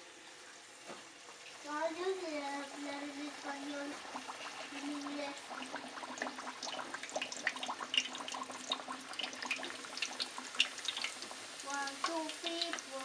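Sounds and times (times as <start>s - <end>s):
dough deep-frying in oil: 0.0s - 13.0s.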